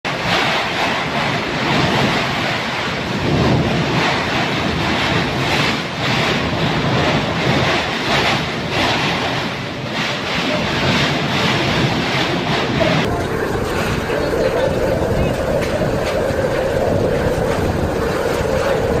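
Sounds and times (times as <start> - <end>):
strong wind buffeting microphone: 0.1 - 19.0.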